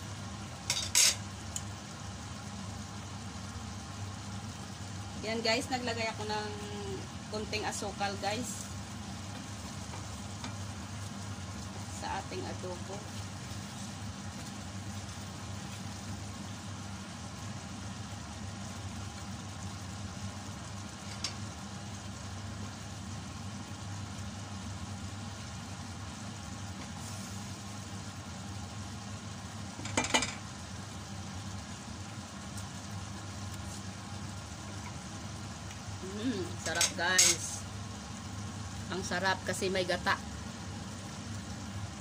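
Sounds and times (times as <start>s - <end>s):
stew bubbling in a pot: 0.0s - 42.0s.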